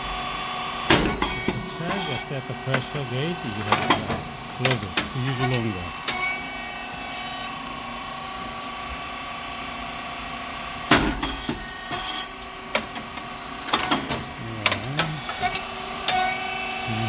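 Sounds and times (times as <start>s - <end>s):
machine motor and pump hum: 0.0s - 17.0s.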